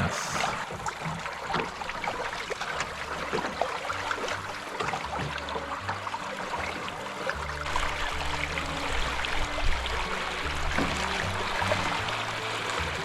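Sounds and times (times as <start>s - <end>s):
water rushing along hulls: 0.0s - 13.0s.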